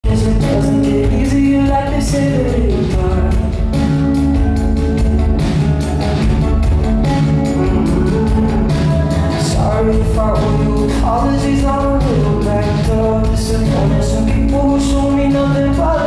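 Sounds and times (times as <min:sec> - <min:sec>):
bass guitar: 0:00.0 - 0:16.0
drums with steady beat: 0:00.0 - 0:16.0
electric guitars: 0:00.0 - 0:16.0
person singing: 0:00.0 - 0:16.0.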